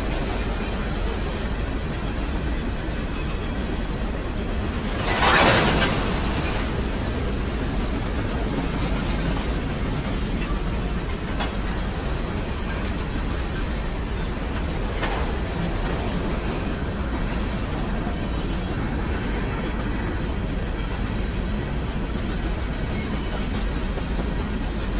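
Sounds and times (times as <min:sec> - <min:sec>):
freight train rumbling past: 0:00.0 - 0:24.9
sharp clicks from train wheels: 0:00.0 - 0:24.9.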